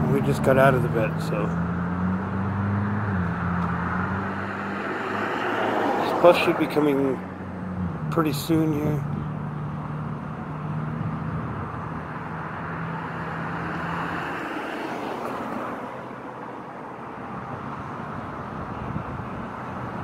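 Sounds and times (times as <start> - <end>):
motor vehicle passing by: 0.0 - 16.6.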